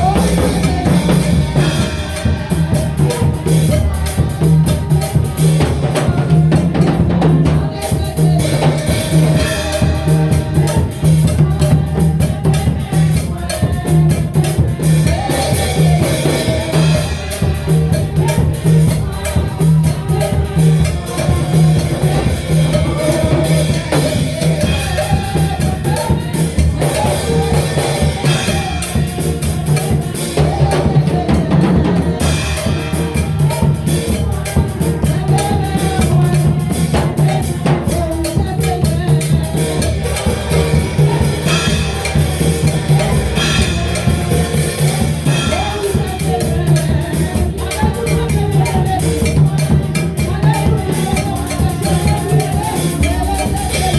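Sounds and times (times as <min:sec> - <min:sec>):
bass line: 0:00.0 - 0:53.9
drum kit beat: 0:00.0 - 0:53.9
gospel worship music: 0:00.0 - 0:53.9.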